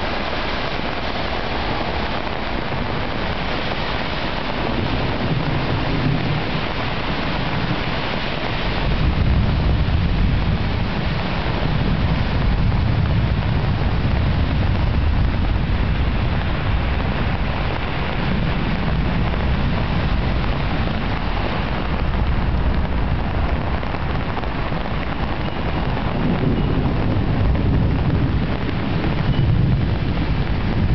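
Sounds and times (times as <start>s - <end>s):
heavy rain hissing: 0.0s - 30.9s
thunder rumble: 0.0s - 30.9s.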